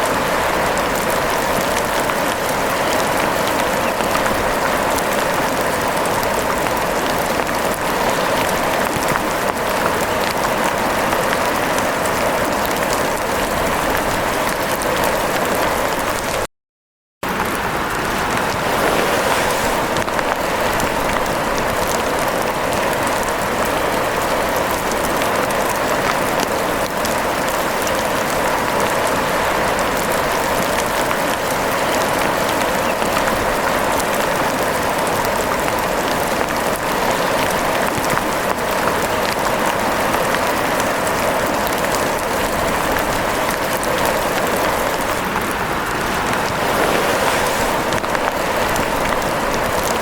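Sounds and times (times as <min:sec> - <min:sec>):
steady rain with drop taps: 0:00.0 - 0:16.5, 0:17.2 - 0:50.0.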